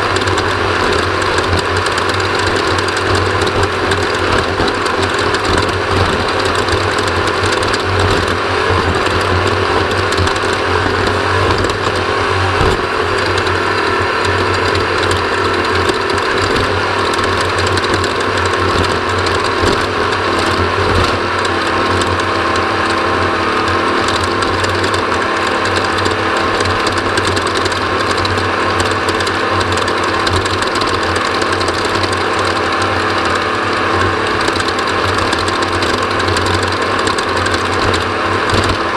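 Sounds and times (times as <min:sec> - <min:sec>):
race vehicle engine running hard: 0:00.0 - 0:38.9
rapid mechanical clatter: 0:00.0 - 0:38.9.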